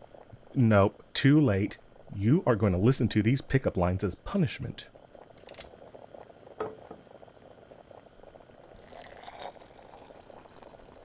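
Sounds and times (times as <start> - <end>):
pot bubbling on stove: 0.0 - 11.0.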